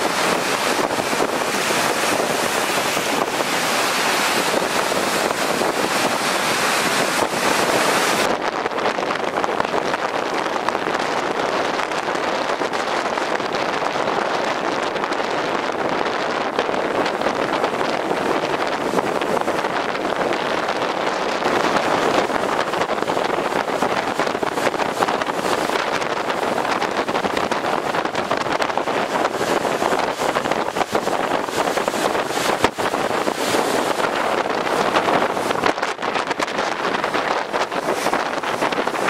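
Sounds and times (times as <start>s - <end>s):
waves breaking on rocky shore: 0.0s - 39.0s
wind buffeting microphone: 0.0s - 39.0s.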